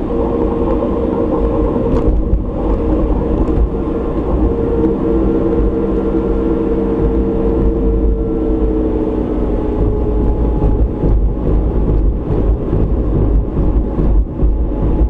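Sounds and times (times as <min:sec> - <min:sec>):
car engine hum: 0:00.0 - 0:15.0
road rumble inside car: 0:00.0 - 0:15.0.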